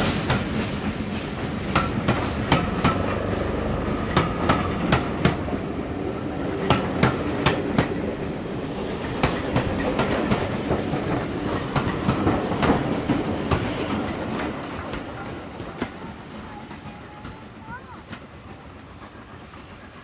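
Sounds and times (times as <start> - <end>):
train coaches rumbling past: 0.0 - 20.0
wheels clacking over rail joints: 0.2 - 19.8.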